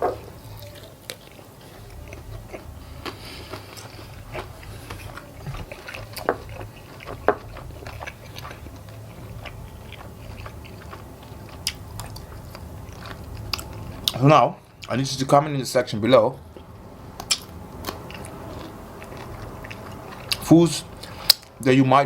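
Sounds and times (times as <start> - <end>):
chewing fried chicken: 0.0 - 22.0.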